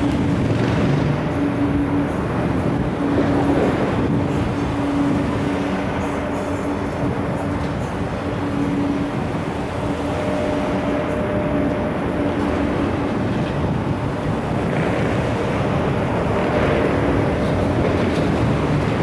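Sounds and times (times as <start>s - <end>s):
train rolling by: 0.0s - 19.0s.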